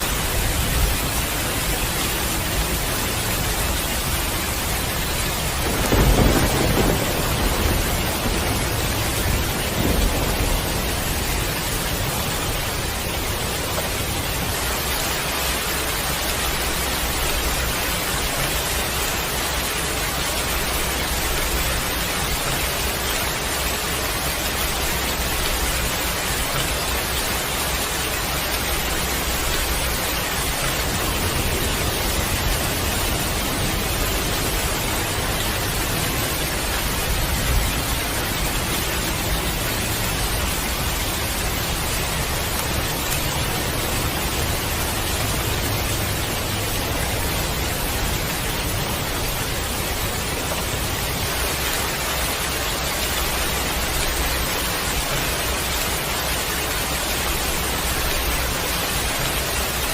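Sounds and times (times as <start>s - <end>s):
heavy rain pouring: 0.0s - 59.9s
low thunder rumble: 0.1s - 52.0s.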